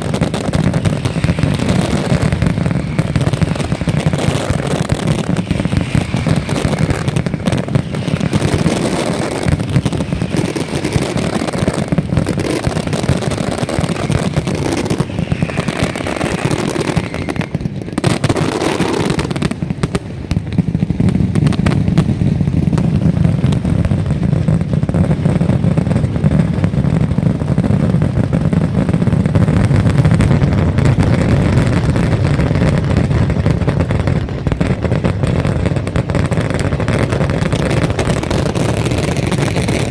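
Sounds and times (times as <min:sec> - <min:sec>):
deep fireworks rumble: 0:00.0 - 0:39.9
firecracker bangs: 0:00.0 - 0:39.9
fireworks crackle: 0:00.0 - 0:39.9.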